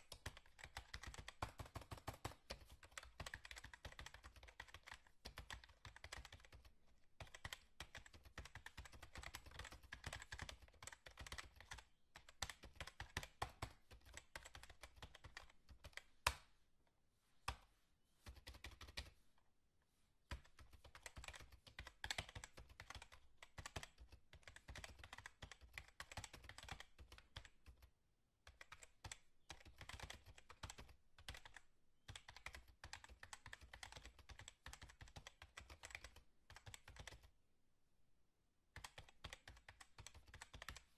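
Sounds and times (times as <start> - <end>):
rapid typing on keyboard: 0.0 - 16.1, 18.3 - 19.1, 20.3 - 27.9, 28.5 - 37.3, 38.8 - 40.9.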